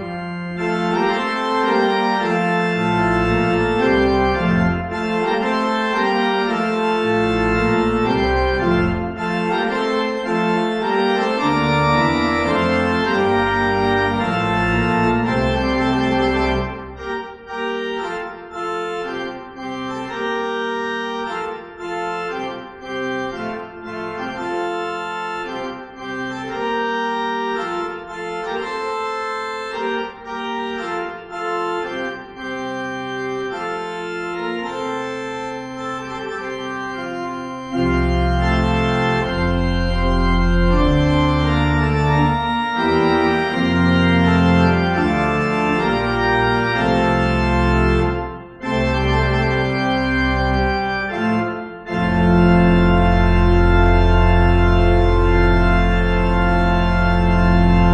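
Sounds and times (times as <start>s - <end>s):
organ chords: 0.0s - 57.9s.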